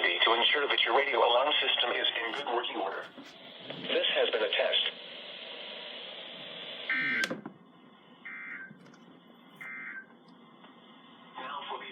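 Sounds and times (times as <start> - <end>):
radio hiss: 0.0 - 8.2, 10.4 - 11.9.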